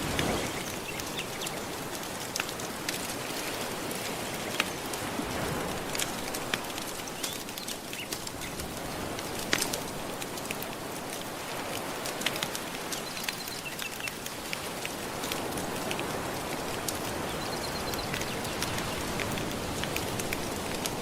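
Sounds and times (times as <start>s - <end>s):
gentle ocean waves washing: 0.0s - 21.0s
wood fire crackling: 0.0s - 21.0s.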